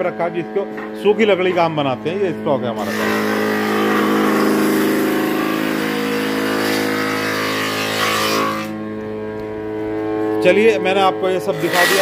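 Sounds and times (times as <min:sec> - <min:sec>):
motor hum: 0:00.4 - 0:12.0.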